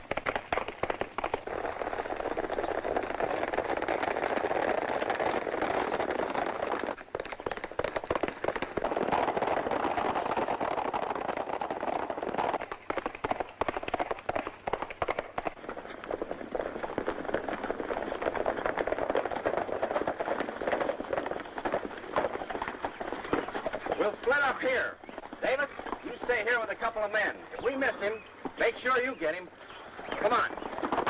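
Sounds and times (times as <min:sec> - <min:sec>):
horses galloping hooves: 0:00.0 - 0:31.0.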